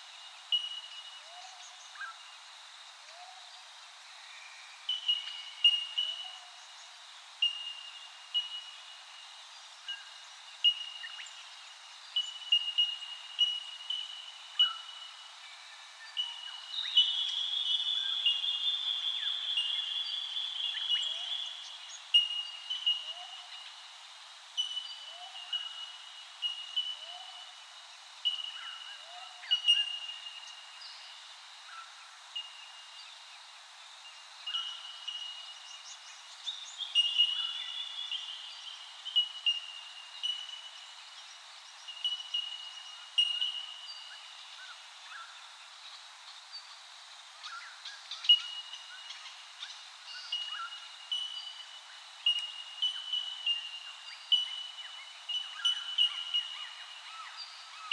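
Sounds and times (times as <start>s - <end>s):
quiet bird chirps: 0.0s - 24.0s, 24.6s - 57.9s.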